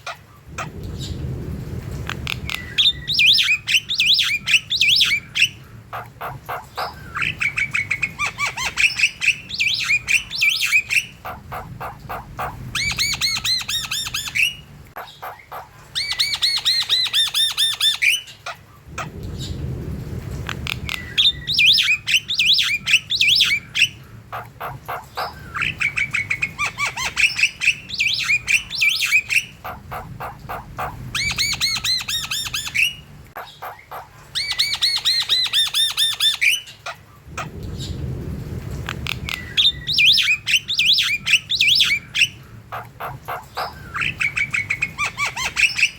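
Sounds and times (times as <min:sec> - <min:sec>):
bird squawks: 0:02.3 - 0:19.1, 0:20.9 - 0:37.5, 0:39.3 - 0:45.9.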